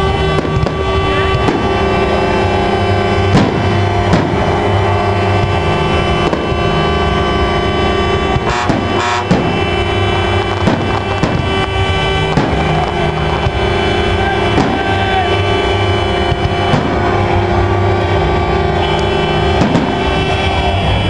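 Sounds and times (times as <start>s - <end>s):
fireworks bangs: 0.0s - 21.0s
loud music: 0.0s - 21.0s.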